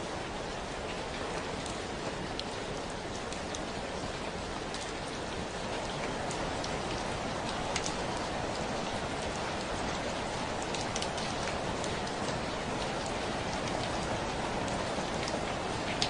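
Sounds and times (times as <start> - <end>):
steady rain hiss: 0.0 - 16.0
raindrops ticking: 0.8 - 16.0.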